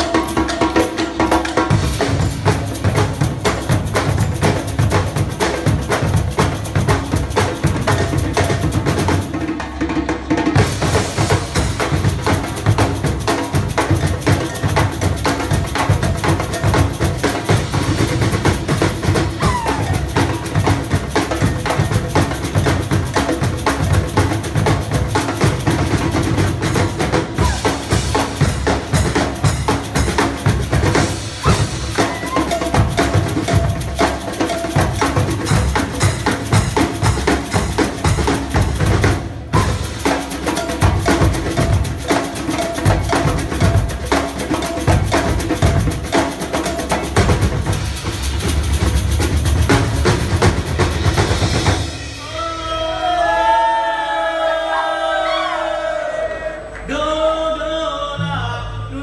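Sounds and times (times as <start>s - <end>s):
drums playing fast rhythm: 0.0s - 55.6s.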